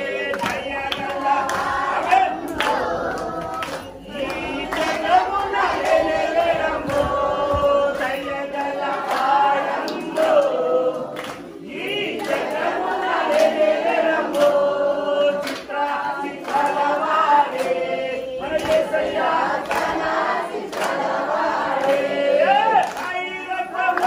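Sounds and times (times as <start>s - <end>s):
congregation singing worship song: 0.0s - 24.0s
regular hand claps: 0.0s - 24.0s.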